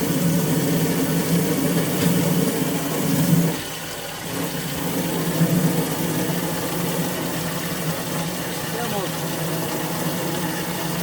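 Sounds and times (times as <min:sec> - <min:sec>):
water from hose splashing: 0:00.0 - 0:11.0.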